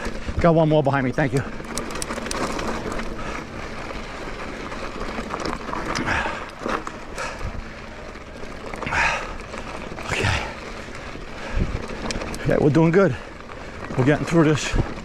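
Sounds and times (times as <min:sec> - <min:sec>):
tyres rolling on dirt: 0:01.4 - 0:15.0.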